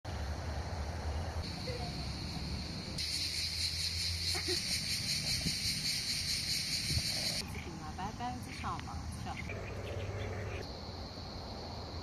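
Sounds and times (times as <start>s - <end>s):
insects chirring: 0.1s - 12.0s.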